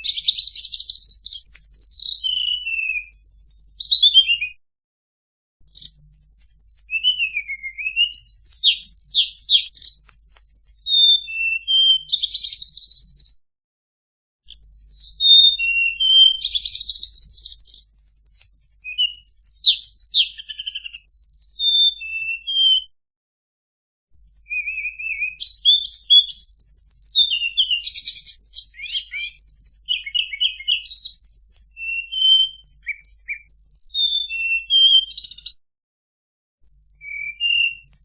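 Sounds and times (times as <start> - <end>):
bird chirping and trilling: 0.0 - 4.6, 5.7 - 13.4, 14.5 - 22.9, 24.2 - 35.6, 36.6 - 38.0.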